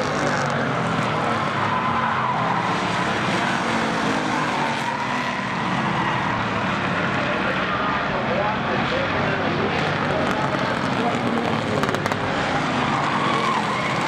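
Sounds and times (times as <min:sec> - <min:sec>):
tire squeal: 0:00.0 - 0:08.3, 0:10.2 - 0:14.0
race car engine at speed: 0:00.0 - 0:14.0.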